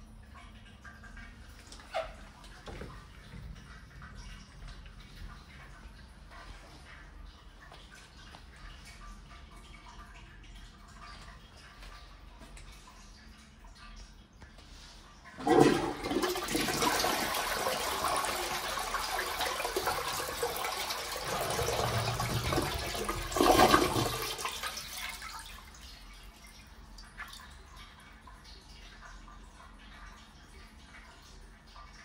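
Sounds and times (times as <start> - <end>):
water trickling: 0.0 - 32.0
toilet flushing: 0.6 - 13.0, 14.6 - 32.0.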